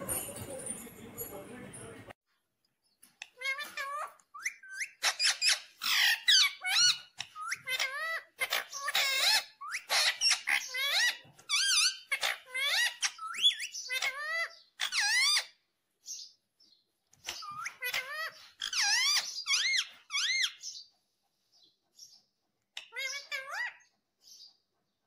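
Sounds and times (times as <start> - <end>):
parakeet squawking and chirping: 3.2 - 21.0, 21.6 - 24.7.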